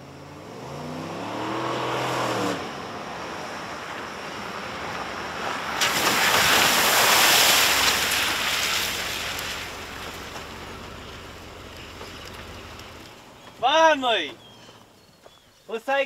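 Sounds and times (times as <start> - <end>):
tires spinning spraying gravel: 0.6 - 16.0.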